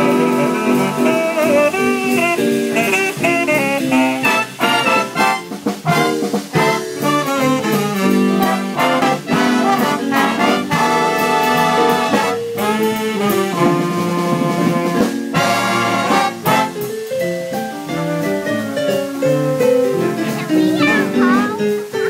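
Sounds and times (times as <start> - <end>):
drums: 0.0 - 22.0
horn section playing swing: 0.0 - 22.0.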